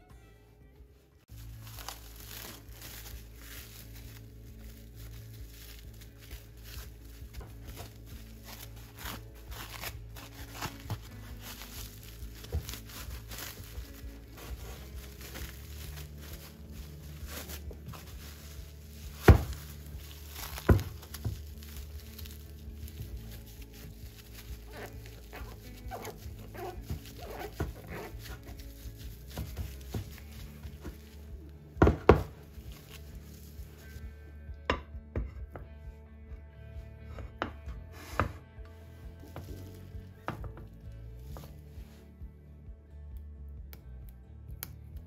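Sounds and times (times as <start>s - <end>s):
soft background music: 0.0s - 45.0s.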